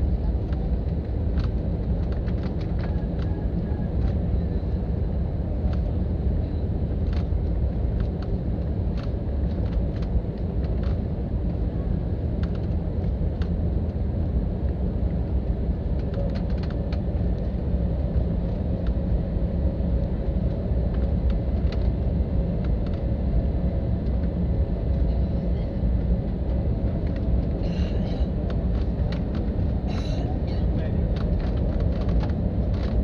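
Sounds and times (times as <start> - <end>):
airliner cabin rumble: 0.0 - 33.0.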